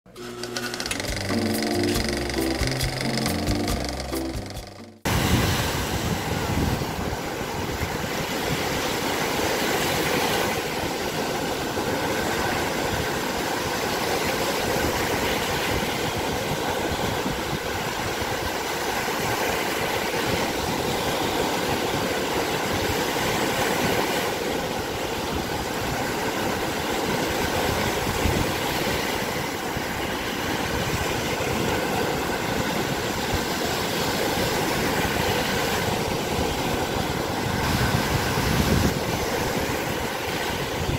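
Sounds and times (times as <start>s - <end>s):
waves washing up a sandy shore: 5.1s - 40.9s.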